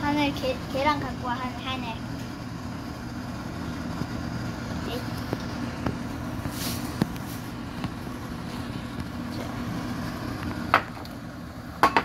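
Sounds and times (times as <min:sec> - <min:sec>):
gas burner rumble: 0:00.0 - 0:12.0.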